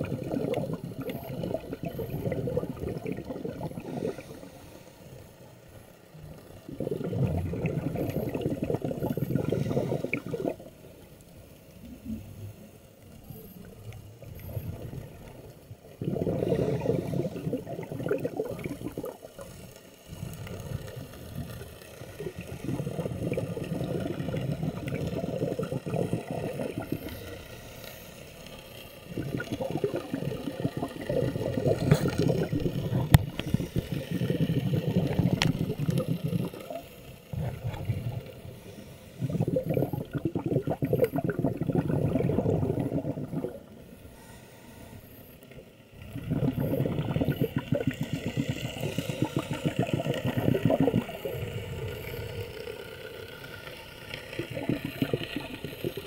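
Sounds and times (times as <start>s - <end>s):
underwater exhaled bubbles: 0.0s - 56.0s.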